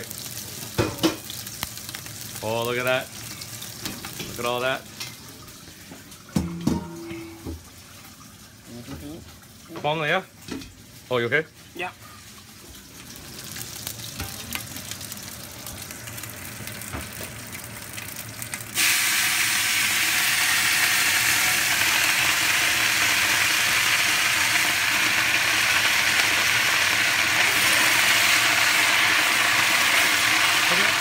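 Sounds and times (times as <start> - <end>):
cabbage sizzling in hot oil: 0.0 - 6.2, 7.5 - 31.0.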